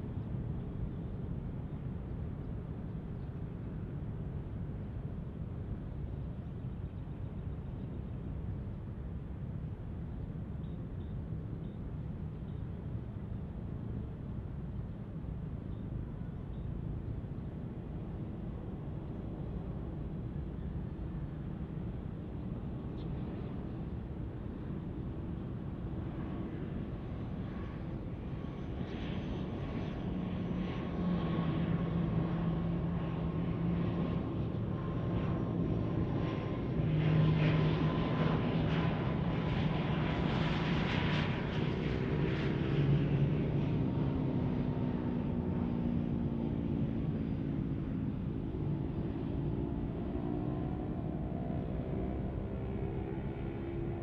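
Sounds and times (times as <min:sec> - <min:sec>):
turboprop airliner droning: 0:00.0 - 0:54.0.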